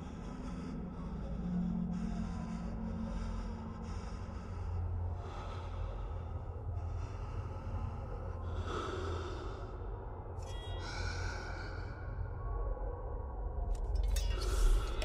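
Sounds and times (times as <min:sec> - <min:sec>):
man breathing heavily: 0:00.0 - 0:12.4.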